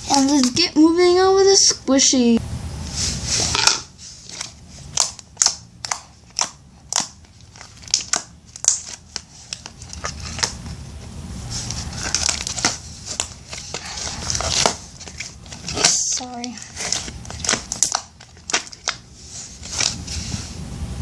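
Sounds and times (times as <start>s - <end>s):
crinkling: 3.3s - 20.5s.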